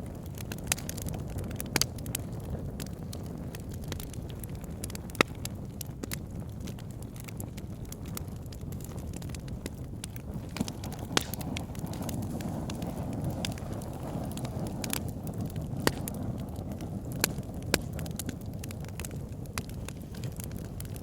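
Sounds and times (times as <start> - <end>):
logs crackling and popping: 0.0 - 21.0
wood fire burning: 0.0 - 21.0.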